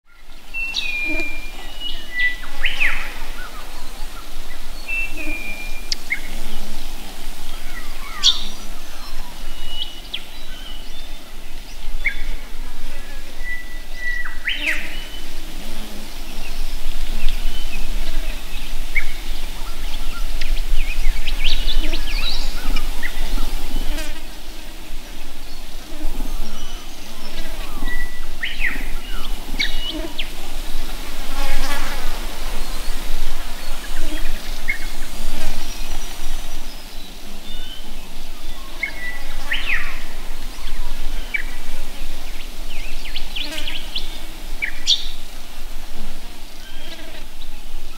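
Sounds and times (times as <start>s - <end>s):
birds whistling and chirping: 0.1s - 6.8s, 7.4s - 12.4s, 13.3s - 15.4s, 16.3s - 24.2s, 25.5s - 30.4s, 31.4s - 45.2s.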